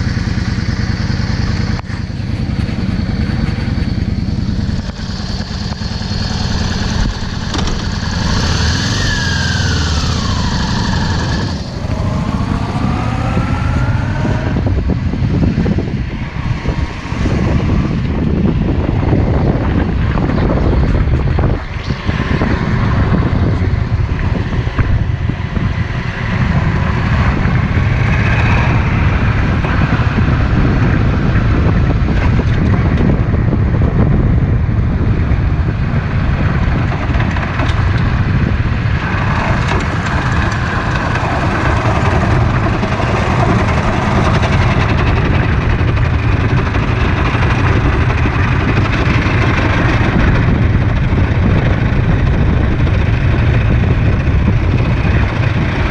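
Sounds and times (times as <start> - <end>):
motorcycle engine running: 0.0 - 55.9
wind rushing over microphone: 0.0 - 55.9.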